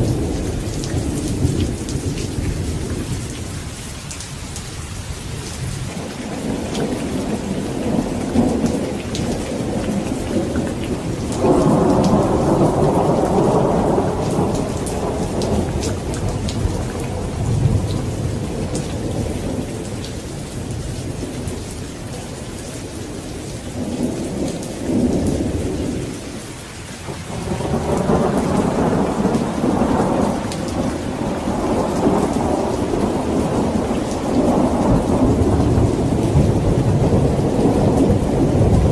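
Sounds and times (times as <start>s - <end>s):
rolling thunder: 0.0s - 3.8s, 5.3s - 21.8s, 27.1s - 38.9s
heavy rain: 0.0s - 38.9s.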